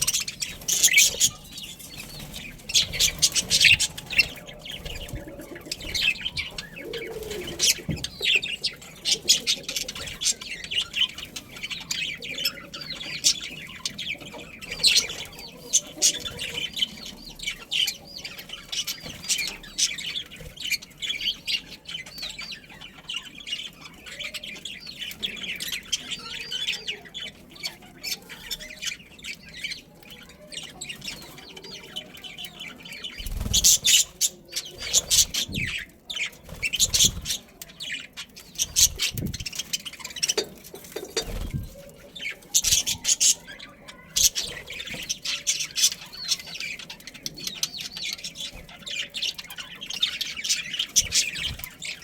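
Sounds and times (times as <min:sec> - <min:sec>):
budgerigars chattering: 0:00.0 - 0:52.0.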